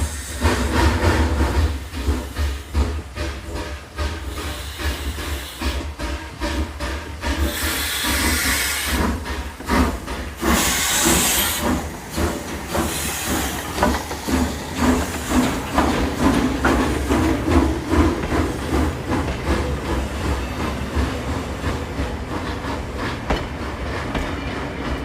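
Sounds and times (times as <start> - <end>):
steam hiss: 0.0 - 24.9
locomotive clanks: 0.0 - 25.0
steam locomotive exhaust chuffs: 0.0 - 25.0.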